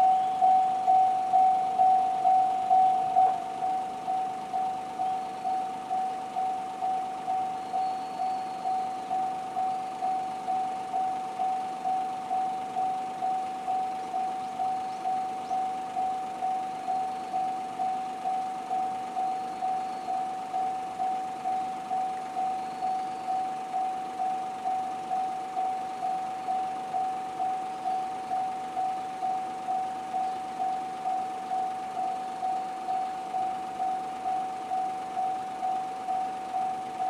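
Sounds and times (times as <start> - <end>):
electronic level crossing bell: 0.0 - 37.0.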